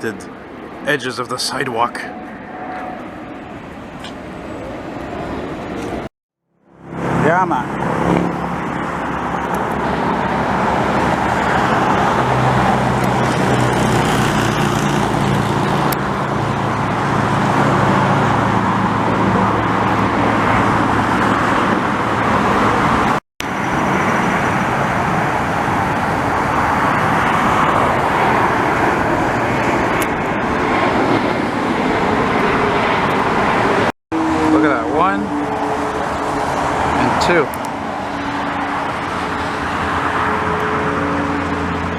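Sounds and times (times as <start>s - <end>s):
low drone: 0.0s - 41.9s
loud engine roar: 1.5s - 41.9s.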